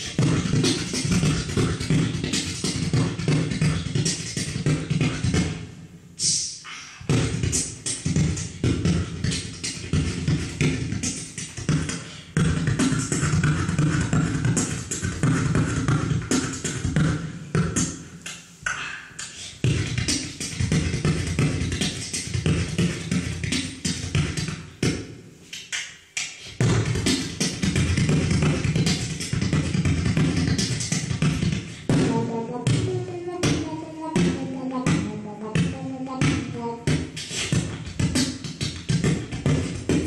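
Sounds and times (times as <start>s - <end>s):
beatboxing into microphone: 0.0s - 40.0s.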